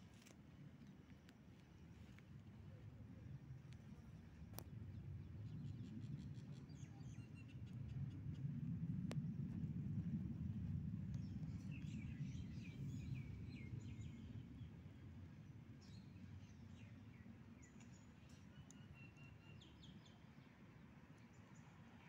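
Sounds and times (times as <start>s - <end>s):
low rumble of outdoor noise: 0.0s - 22.0s.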